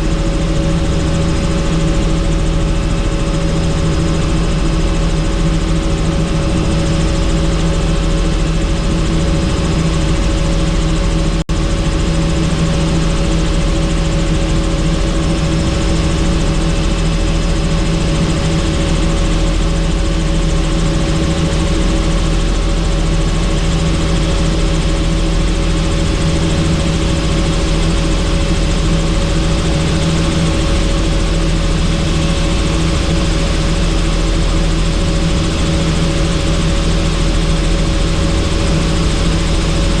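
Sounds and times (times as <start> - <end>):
helicopter rotor and turbine drone: 0.0 - 40.0.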